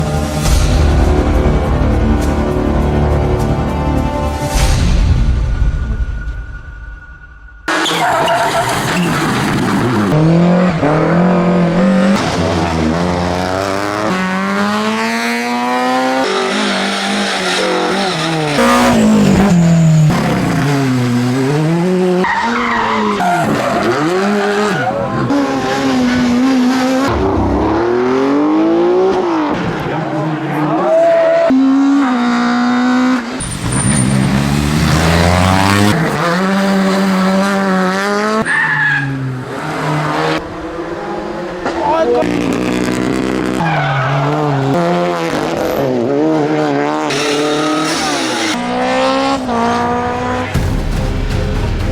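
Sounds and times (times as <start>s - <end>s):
tyres skidding: 7.7s - 50.8s
rally car engines revving: 7.7s - 51.9s.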